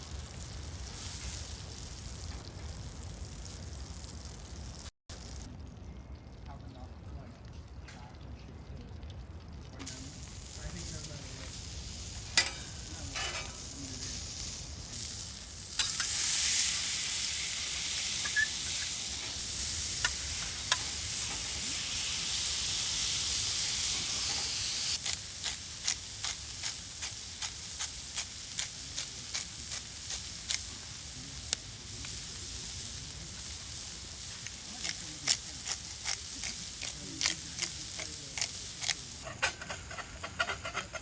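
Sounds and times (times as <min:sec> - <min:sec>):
food sizzling in a pan: 0:00.0 - 0:05.5, 0:09.8 - 0:41.0.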